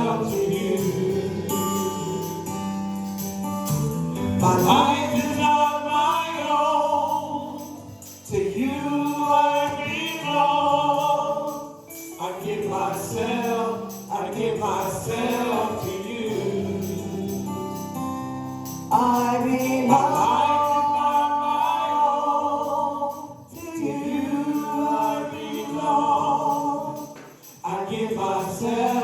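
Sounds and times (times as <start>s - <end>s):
voices singing: 0.0s - 3.3s, 4.2s - 18.1s, 18.8s - 29.0s
worship band playing: 0.0s - 29.0s.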